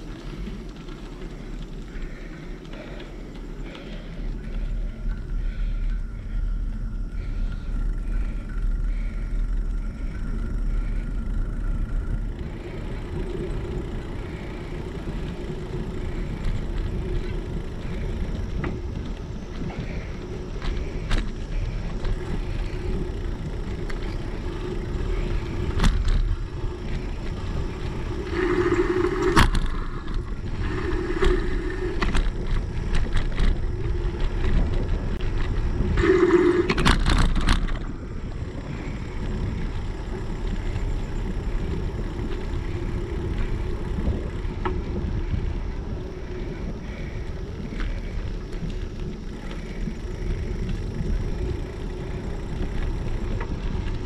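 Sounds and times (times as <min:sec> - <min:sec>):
bicycle tyre rumble: 0:00.0 - 0:54.0
wind on microphone: 0:10.3 - 0:54.0.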